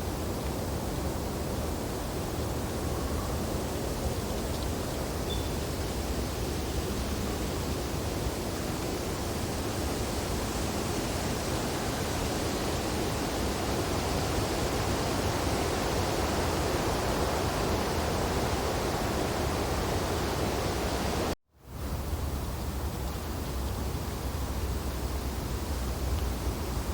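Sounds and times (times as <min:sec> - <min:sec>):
wind blowing through branches: 0:00.0 - 0:26.9.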